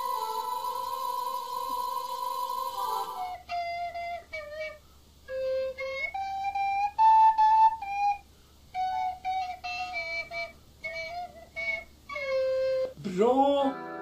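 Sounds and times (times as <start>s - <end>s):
flute-like wind instrument melody: 0.0s - 13.1s.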